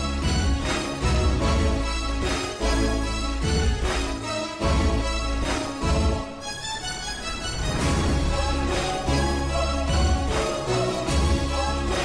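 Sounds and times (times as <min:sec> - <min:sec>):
background music with sustained notes: 0:00.0 - 0:12.0.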